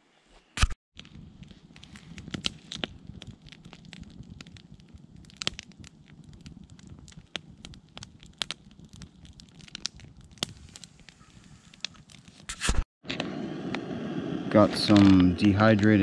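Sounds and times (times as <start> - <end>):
sharp pops of fire: 0.6 - 16.0
campfire crackling: 1.0 - 16.0.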